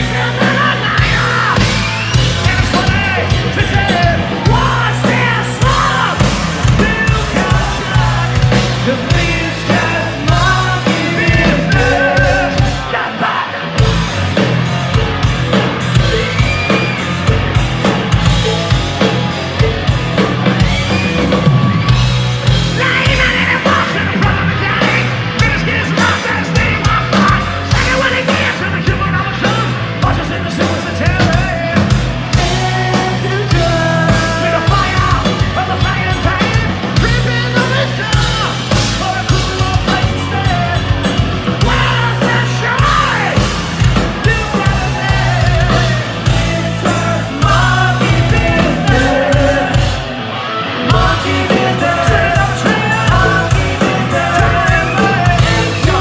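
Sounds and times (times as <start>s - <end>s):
person yelling singing: 0.0s - 13.9s, 22.6s - 56.0s
bass guitar: 0.0s - 56.0s
distorted electric guitars: 0.0s - 56.0s
pounding drum kit: 0.0s - 56.0s.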